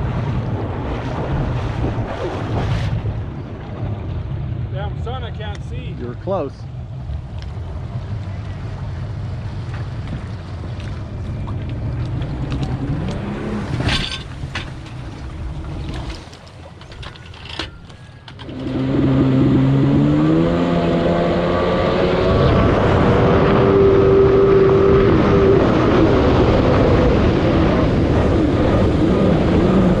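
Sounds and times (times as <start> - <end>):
jet ski engine running: 0.0 - 17.0, 17.6 - 30.0.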